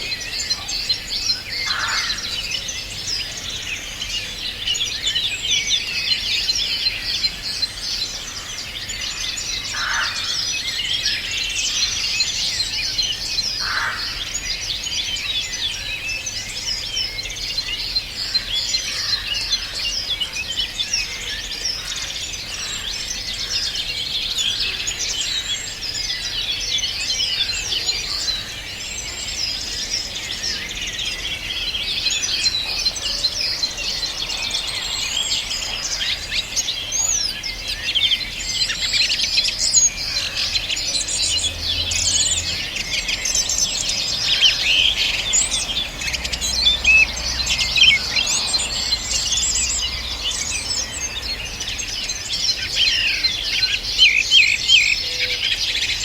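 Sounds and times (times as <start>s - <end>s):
chorus of songbirds singing: 0.0s - 56.0s.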